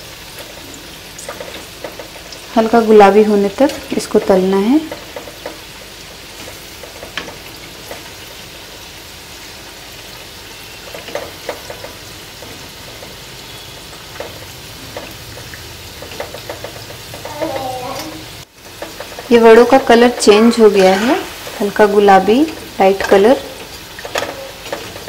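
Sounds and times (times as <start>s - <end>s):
deep-frying sizzle in oil: 0.0s - 25.0s.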